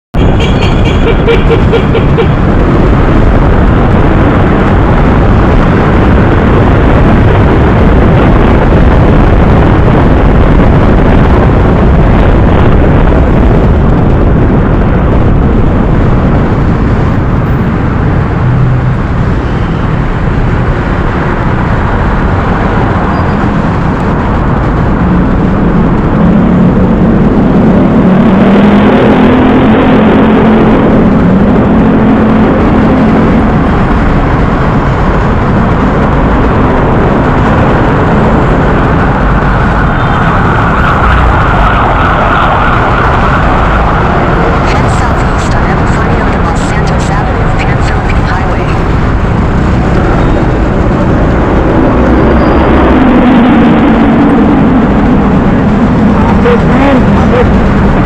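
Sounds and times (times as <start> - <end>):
motorcycle engine and road noise: 0.1 - 58.0.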